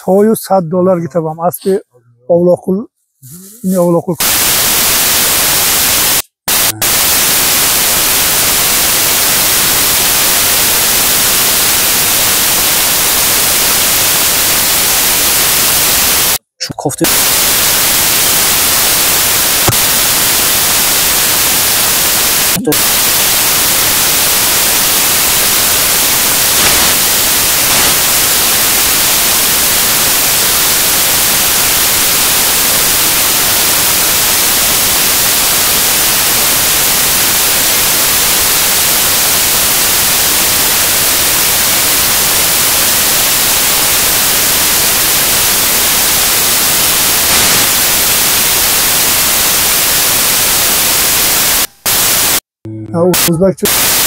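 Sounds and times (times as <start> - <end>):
static hiss: 2.6 - 54.0.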